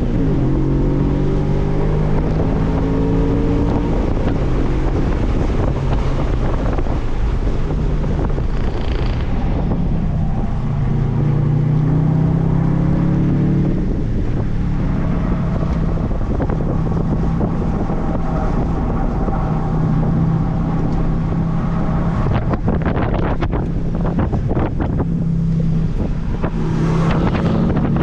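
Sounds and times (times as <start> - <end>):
car engine under load: 0.0 - 28.0
wind noise on microphone: 0.0 - 28.0.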